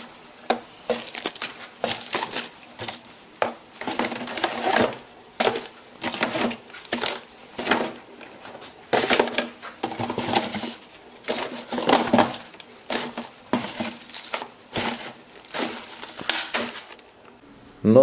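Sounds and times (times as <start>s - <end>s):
plastic packaging crinkling: 0.7s - 8.1s, 8.9s - 17.4s.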